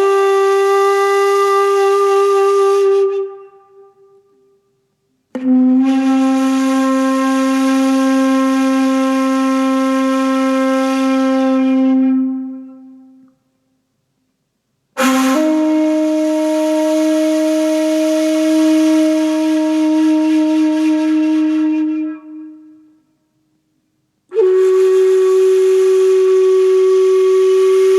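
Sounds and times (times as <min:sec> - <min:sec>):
wind instrument long notes: 0:00.0 - 0:04.6, 0:05.3 - 0:13.4, 0:15.0 - 0:23.0, 0:24.3 - 0:27.9.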